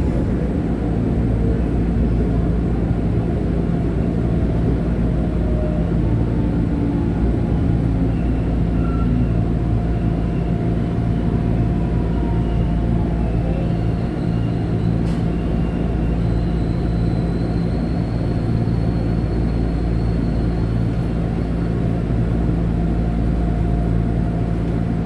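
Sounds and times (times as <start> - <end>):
train cabin hum and rumble: 0.0 - 25.0.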